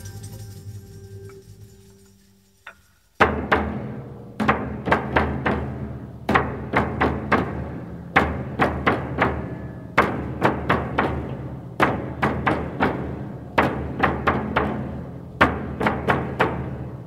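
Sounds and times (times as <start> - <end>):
percussion hard strikes: 0.0 - 17.0.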